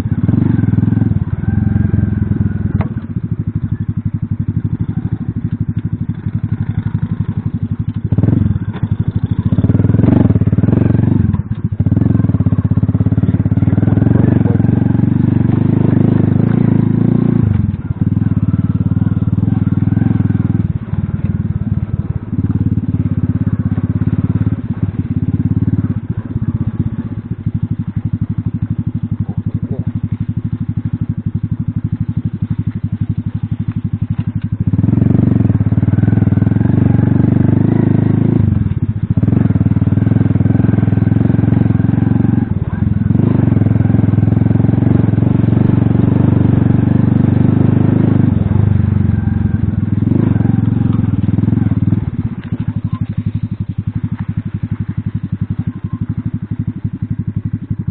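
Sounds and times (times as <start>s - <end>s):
moped engine under throttle: 0.0s - 57.9s.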